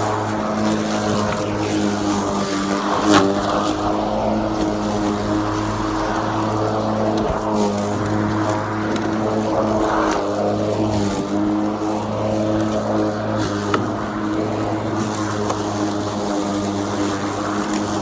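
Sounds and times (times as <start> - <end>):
lawn mower running: 0.0 - 18.0.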